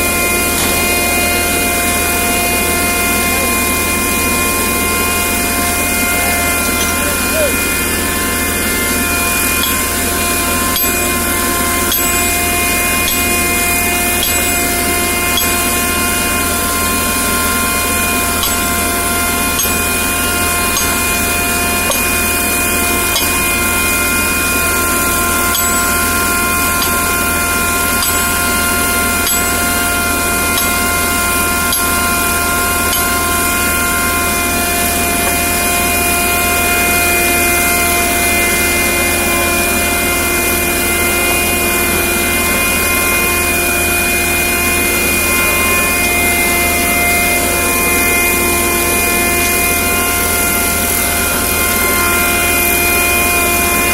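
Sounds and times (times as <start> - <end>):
machine whining and rumbling: 0.0 - 53.9.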